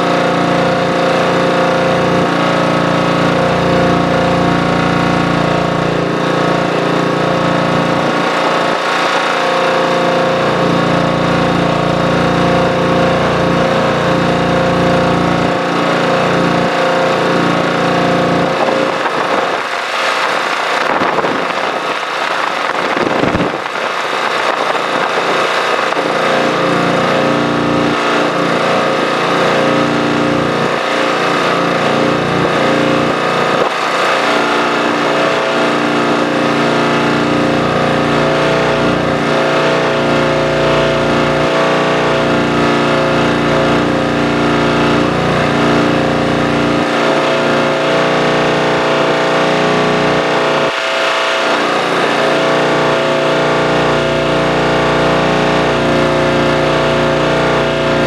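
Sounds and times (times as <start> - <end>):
diesel tractor engine rumbling: 0.0 - 50.8.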